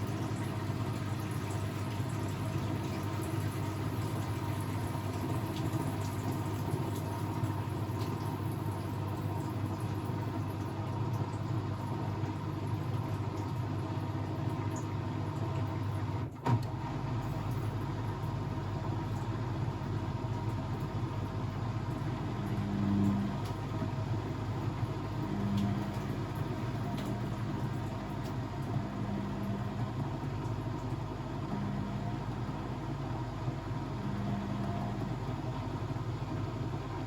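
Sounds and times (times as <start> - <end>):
low motor hum in bursts: 0.0 - 37.0
washing machine humming: 0.0 - 37.0.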